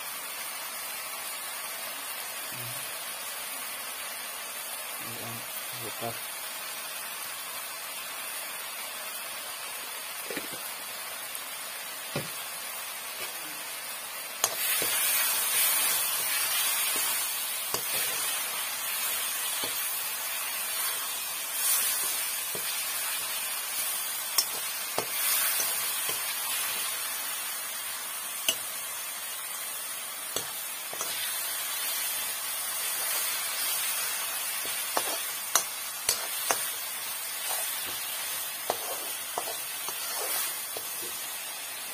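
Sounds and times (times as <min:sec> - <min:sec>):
masala sizzling in a pan: 0:00.0 - 0:41.9.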